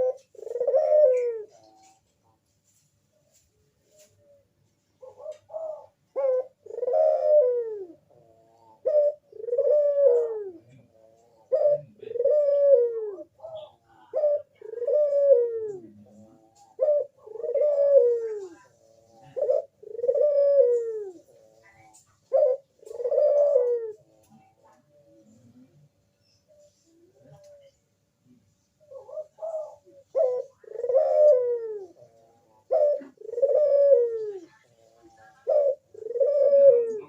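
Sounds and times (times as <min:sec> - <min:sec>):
dove cooing: 0:00.0 - 0:02.4, 0:03.2 - 0:27.8, 0:28.8 - 0:37.0.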